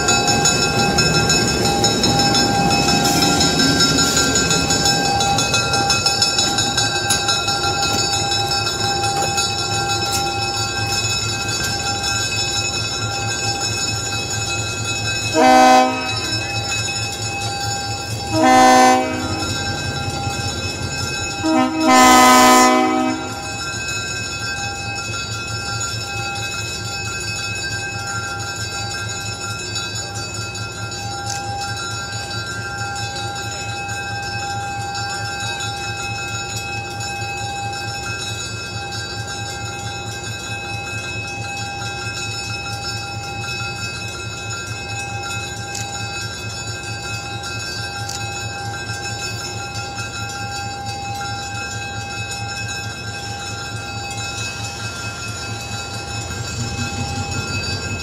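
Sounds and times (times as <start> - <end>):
diesel locomotive engine throbbing: 0.0 - 58.0.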